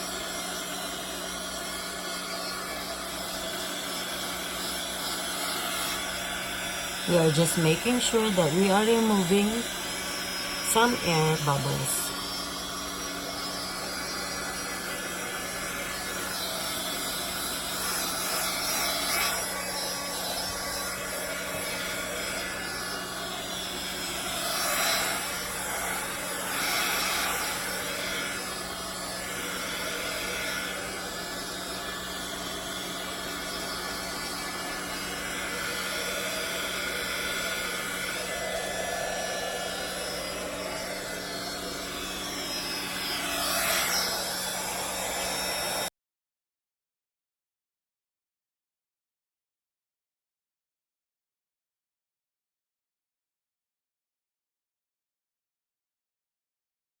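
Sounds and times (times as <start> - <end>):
heat gun fan motor blowing: 0.0 - 45.9.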